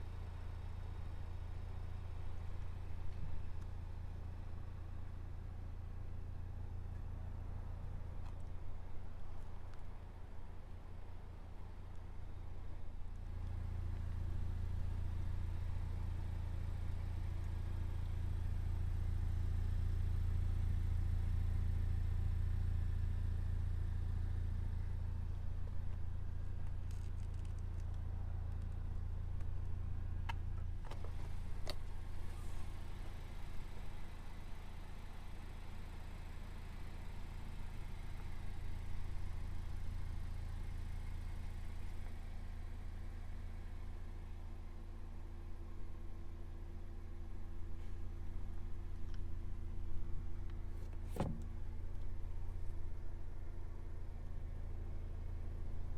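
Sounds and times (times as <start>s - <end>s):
car engine idling: 0.0s - 55.9s.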